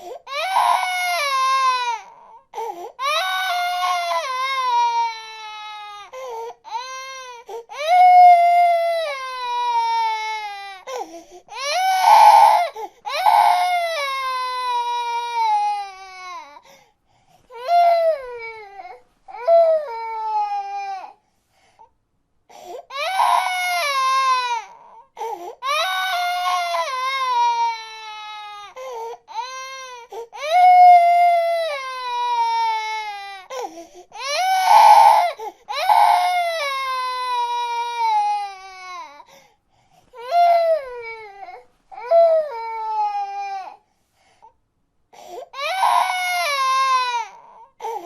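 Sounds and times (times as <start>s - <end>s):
infant crying: 0.0s - 16.7s, 17.5s - 21.2s, 22.5s - 39.4s, 40.2s - 43.8s, 45.2s - 48.0s.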